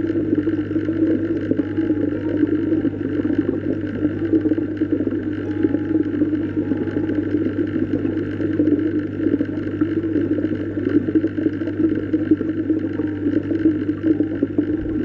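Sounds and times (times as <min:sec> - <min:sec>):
low underwater hum: 0:00.0 - 0:15.0
water noise: 0:00.0 - 0:15.0.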